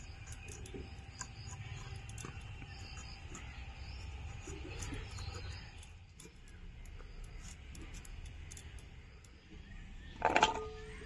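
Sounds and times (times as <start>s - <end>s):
knife peeling potato: 0.0s - 9.4s.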